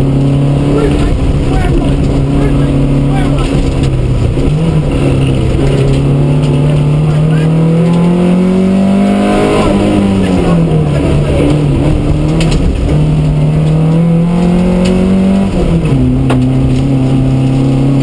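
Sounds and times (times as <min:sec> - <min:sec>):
car engine revving in cabin: 0:00.0 - 0:18.0.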